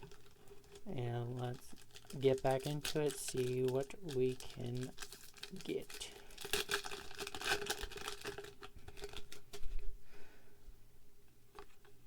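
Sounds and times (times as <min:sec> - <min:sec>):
foil pack crinkling and tearing: 0:00.0 - 0:09.7.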